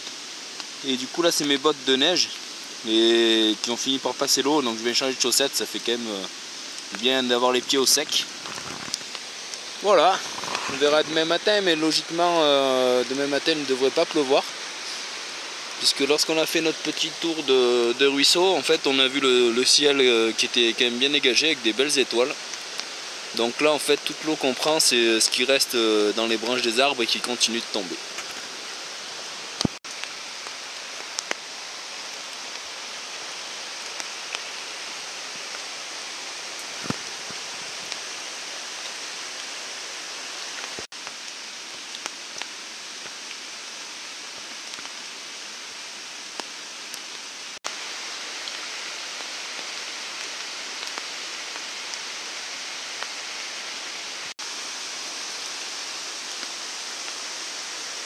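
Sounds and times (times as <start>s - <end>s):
water dripping from branches: 0.0s - 58.0s.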